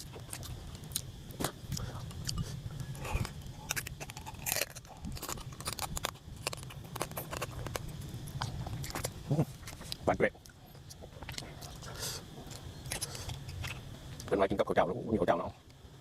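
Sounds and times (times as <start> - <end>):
person chewing crunchy food: 0.0 - 14.3.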